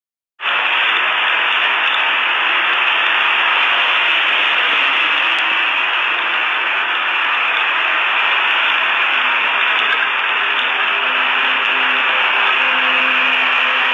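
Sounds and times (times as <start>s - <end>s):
steady static hiss: 0.4s - 13.9s.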